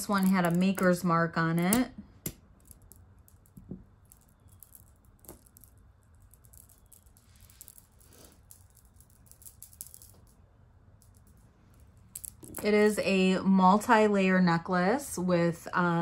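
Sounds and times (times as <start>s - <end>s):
beads clicking and rattling: 0.0s - 13.0s.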